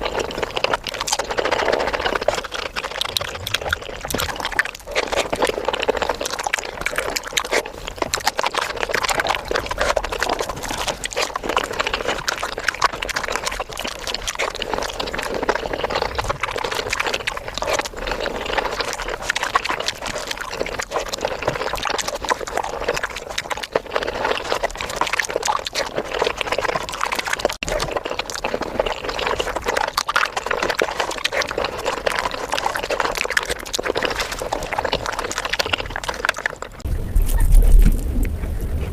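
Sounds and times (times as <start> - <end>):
wet chewing and smacking: 0.0 - 38.9.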